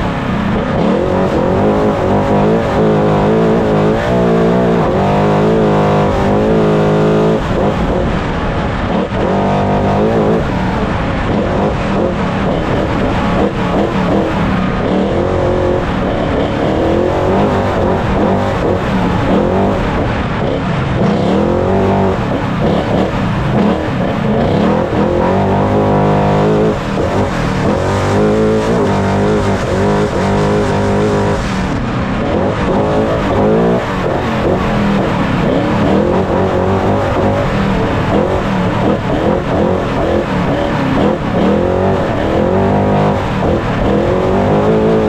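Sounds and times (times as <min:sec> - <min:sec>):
rough road noise: 0:00.0 - 0:45.0
truck engine revving: 0:00.0 - 0:45.0
wind noise: 0:00.0 - 0:45.0.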